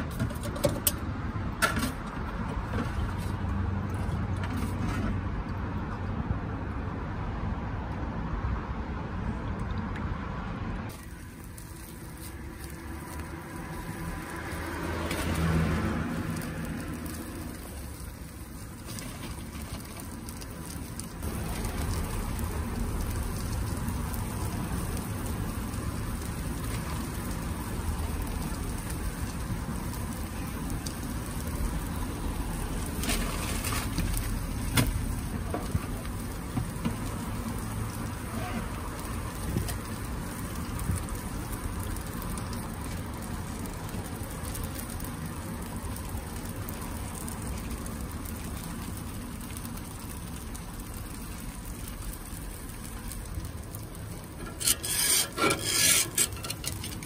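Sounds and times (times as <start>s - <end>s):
batter sizzling in hot pan: 10.9s - 57.0s.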